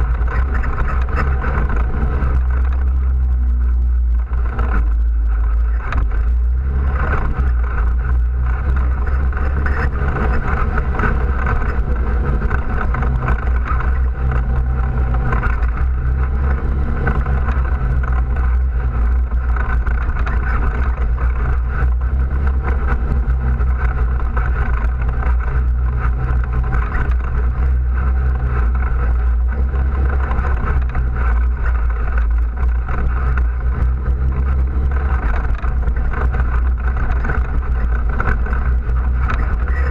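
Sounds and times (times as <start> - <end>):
off-road vehicle engine droning: 0.0 - 39.9
tyres on gravel trail: 0.0 - 39.9.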